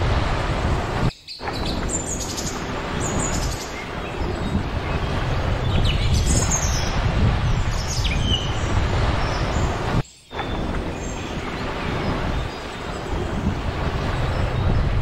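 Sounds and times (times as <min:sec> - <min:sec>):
gentle surf: 0:00.0 - 0:15.0
wind rushing: 0:00.0 - 0:15.0.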